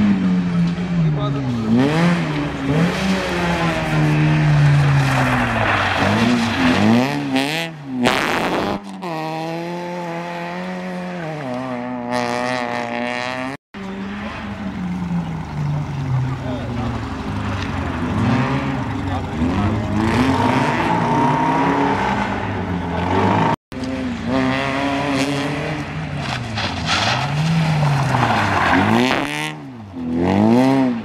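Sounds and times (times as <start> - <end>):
gravel and tyre noise: 0.0 - 31.0
rally car engine revving: 0.0 - 31.0.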